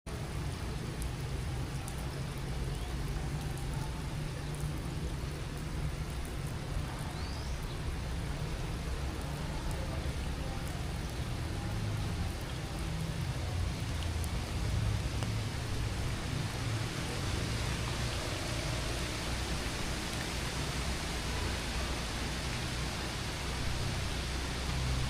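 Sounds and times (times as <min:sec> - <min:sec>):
raindrop ticks: 0:00.1 - 0:25.0
steady rainfall: 0:00.1 - 0:25.0.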